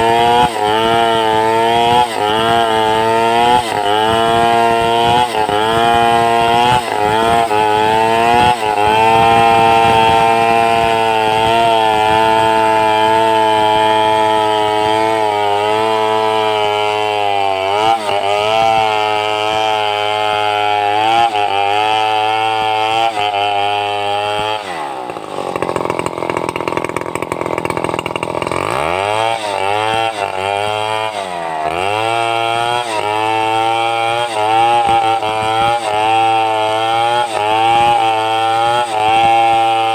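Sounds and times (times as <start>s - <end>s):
chainsaw sawing timber: 0.0s - 39.9s.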